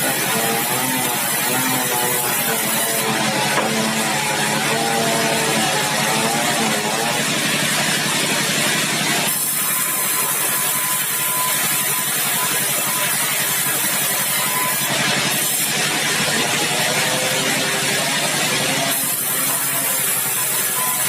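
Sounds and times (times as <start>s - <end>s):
sawmill engine running: 0.0s - 21.0s.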